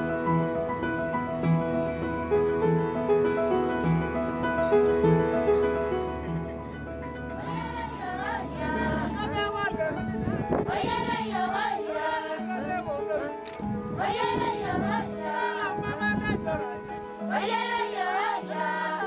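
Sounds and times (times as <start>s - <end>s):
keyboard music with low note: 0.0s - 19.0s.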